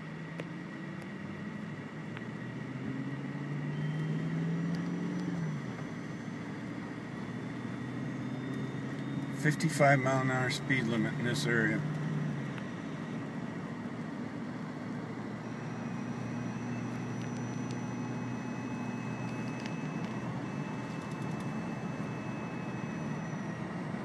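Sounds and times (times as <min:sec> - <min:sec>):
car engine running: 0:00.0 - 0:24.0
tyres on asphalt: 0:00.0 - 0:24.0.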